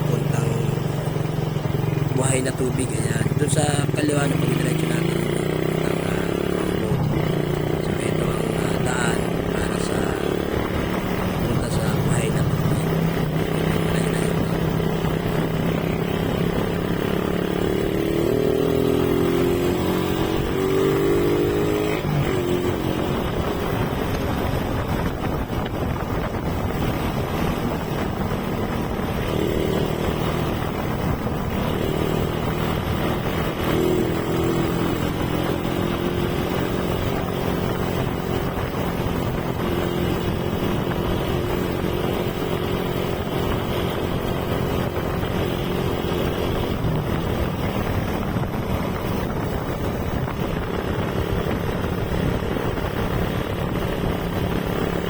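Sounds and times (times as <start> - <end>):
motorcycle engine running: 0.0 - 55.0
road and air noise: 0.0 - 55.0.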